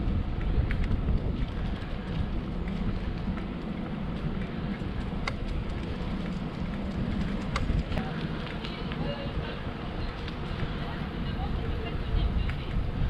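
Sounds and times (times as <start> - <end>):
bicycle tyres rolling on asphalt: 0.0 - 13.0
wind on microphone: 0.0 - 13.0.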